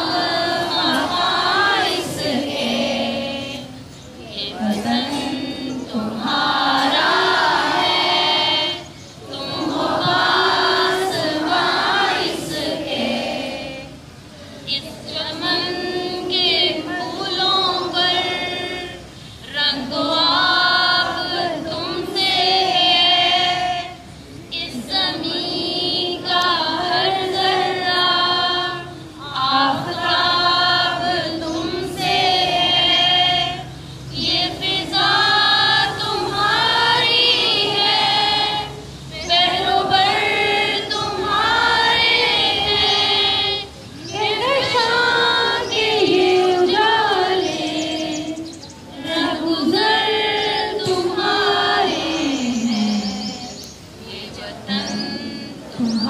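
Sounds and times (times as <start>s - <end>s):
women singing in unison: 0.0s - 56.0s.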